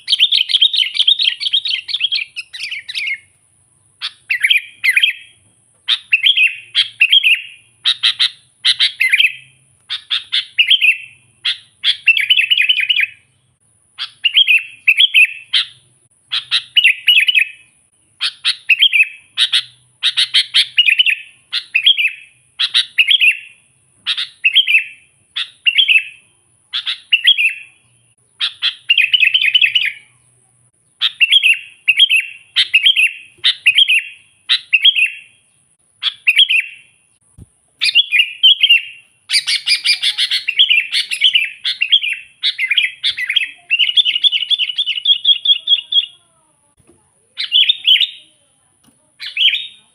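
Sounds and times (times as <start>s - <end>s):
bulbul singing: 0.0s - 46.5s, 47.3s - 49.9s.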